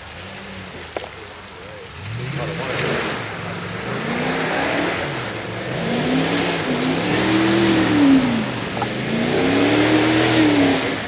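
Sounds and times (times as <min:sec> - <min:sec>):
truck engine revving: 0:01.8 - 0:11.0.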